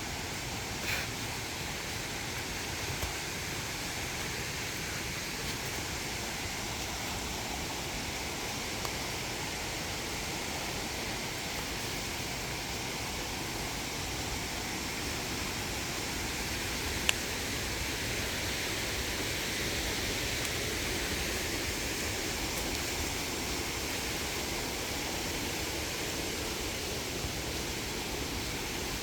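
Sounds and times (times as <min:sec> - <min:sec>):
distant waterfall rushing: 0:00.0 - 0:29.0.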